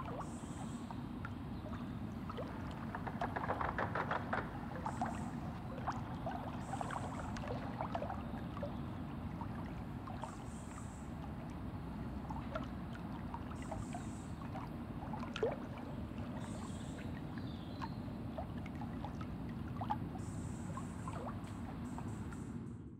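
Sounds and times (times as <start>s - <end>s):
water lapping against boat hull: 0.0s - 22.5s.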